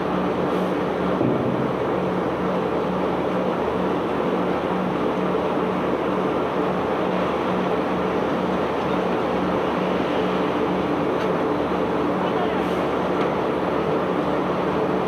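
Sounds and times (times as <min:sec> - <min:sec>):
pulsing machinery hum: 0:00.0 - 0:15.0.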